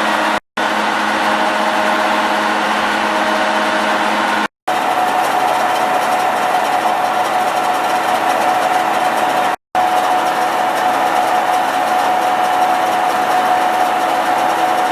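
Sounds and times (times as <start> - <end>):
lathe hum with gear whine: 0.0 - 14.9.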